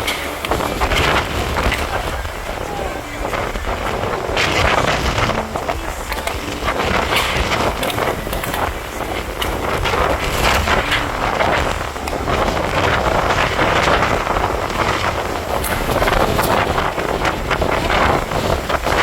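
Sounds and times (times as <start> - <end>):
wind gusts buffeting microphone: 0.0 - 19.0.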